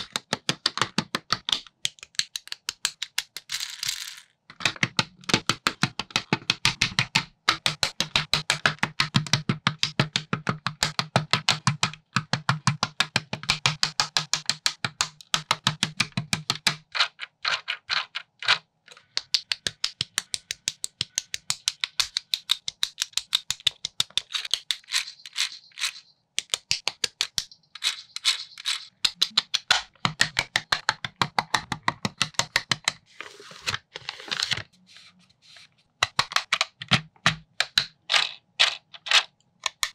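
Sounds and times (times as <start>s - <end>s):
plastic bricks clicking and rattling: 0.0s - 34.6s, 36.0s - 39.9s.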